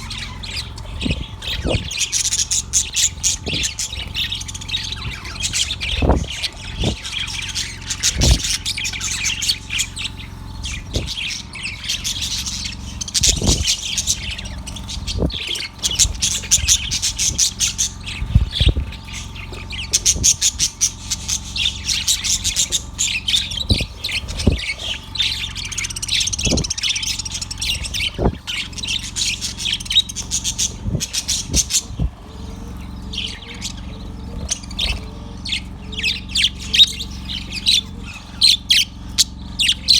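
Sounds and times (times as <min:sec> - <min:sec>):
budgerigar chirping and chattering: 0:00.0 - 0:39.9.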